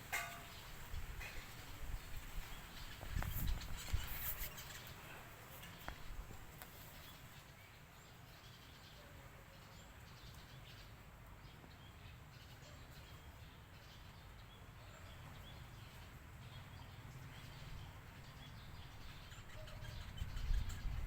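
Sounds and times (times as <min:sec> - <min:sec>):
faint bird chirps: 0:00.3 - 0:11.0, 0:11.8 - 0:21.0.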